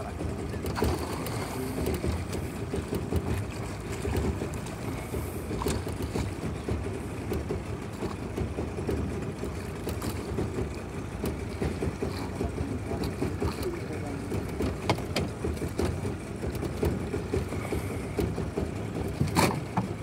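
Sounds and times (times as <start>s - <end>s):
boat engine low rumble: 0.0s - 20.0s.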